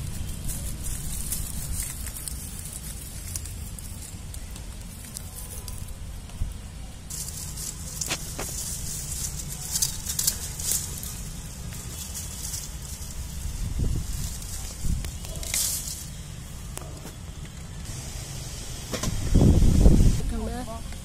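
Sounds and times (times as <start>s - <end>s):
dry leaves rustling and crackling: 0.0s - 18.7s
steady low rumble: 0.0s - 21.0s
stems snapping: 0.4s - 17.8s.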